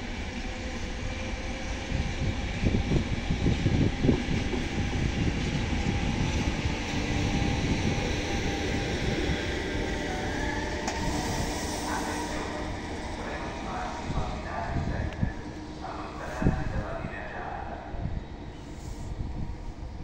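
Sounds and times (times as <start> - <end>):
train rumbling along track: 0.0 - 20.0.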